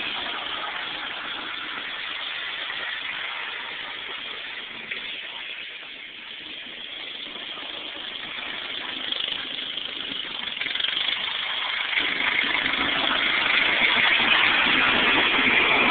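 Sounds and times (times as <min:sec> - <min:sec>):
riding mower engine running: 0:00.0 - 0:15.9.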